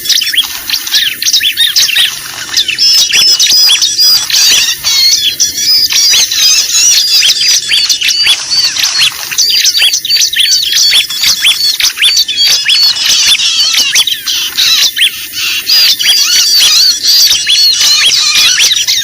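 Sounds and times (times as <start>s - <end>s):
chorus of small birds chirping: 0.0s - 19.0s.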